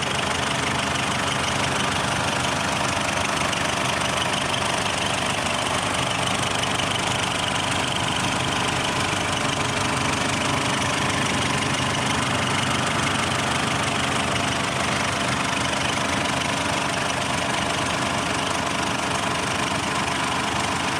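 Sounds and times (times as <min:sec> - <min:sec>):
pickup engine idling: 0:00.0 - 0:20.9.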